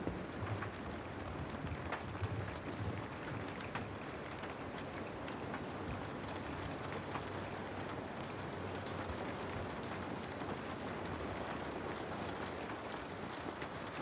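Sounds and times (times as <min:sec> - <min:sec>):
rain pattering on window: 0:00.0 - 0:14.0.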